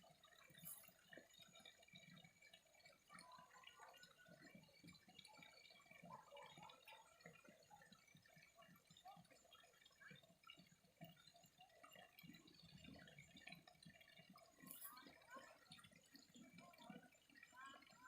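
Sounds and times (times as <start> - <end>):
water dripping and splashing: 0.0 - 18.0
water trickling and gurgling: 0.0 - 18.0.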